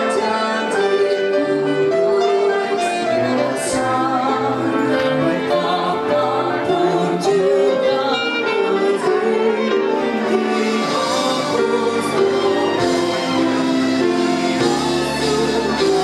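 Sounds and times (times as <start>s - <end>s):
orchestra playing a hymn: 0.0s - 16.0s.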